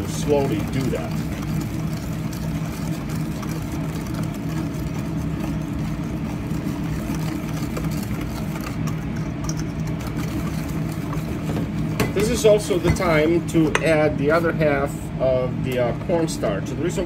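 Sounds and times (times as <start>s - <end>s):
whisk scraping steel bowl: 0.0s - 14.4s
low machine hum: 0.0s - 17.0s.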